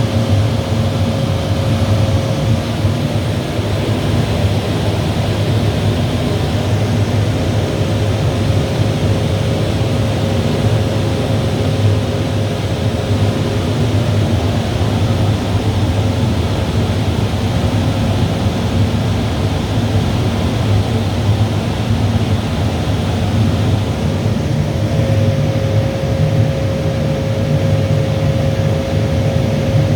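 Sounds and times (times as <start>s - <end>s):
boiler machine noise: 0.0s - 29.9s.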